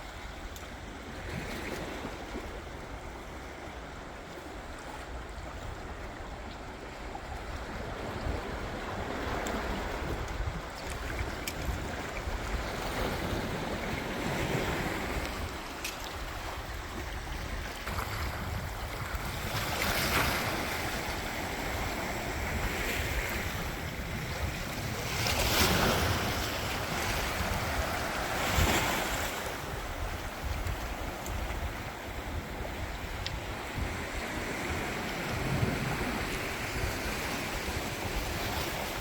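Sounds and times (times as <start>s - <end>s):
waves breaking: 0.0s - 39.0s
wind rumble on microphone: 0.0s - 39.0s.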